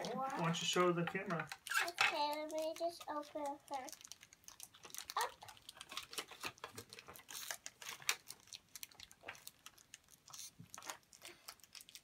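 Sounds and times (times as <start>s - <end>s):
foil wrappers tearing and crinkling: 0.0s - 12.0s.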